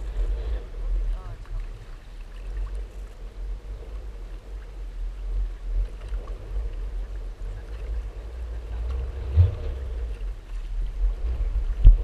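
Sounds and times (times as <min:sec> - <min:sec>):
water rushing along hulls: 0:00.0 - 0:12.0
wind buffeting microphone: 0:00.0 - 0:12.0.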